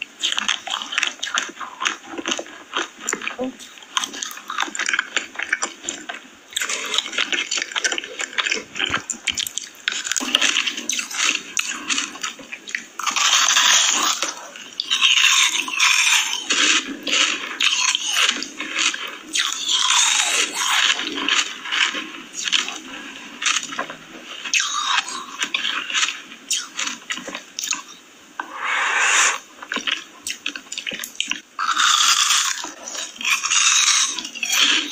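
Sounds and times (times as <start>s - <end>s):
crunching and chewing food: 0.0s - 34.9s.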